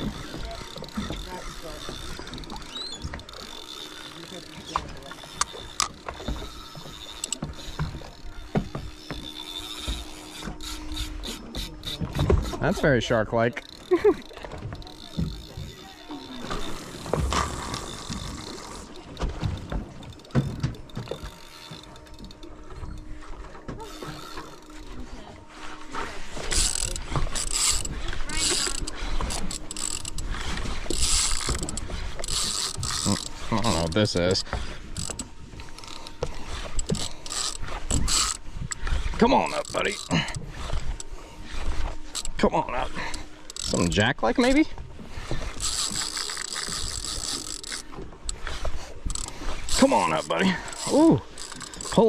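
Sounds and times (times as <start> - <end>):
scattered knocks and clicks: 0.0 - 24.9, 26.4 - 41.1, 43.0 - 52.0
low steady hum: 0.0 - 52.0
water lapping against boat hull: 0.0 - 52.0.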